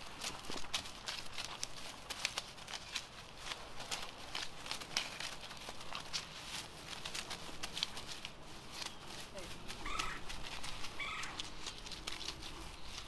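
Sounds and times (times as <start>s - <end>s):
footsteps in grass and leaves: 0.0s - 13.0s.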